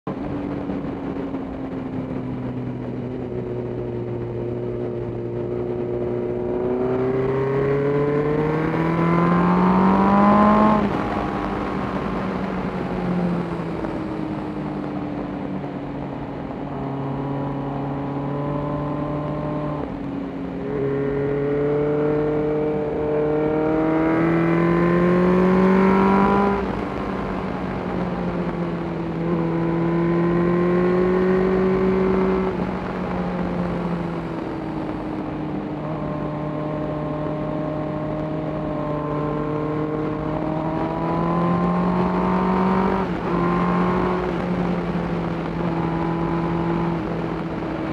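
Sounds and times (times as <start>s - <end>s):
motorcycle engine accelerating: 0.0s - 47.9s
wind and road rush: 0.0s - 47.9s.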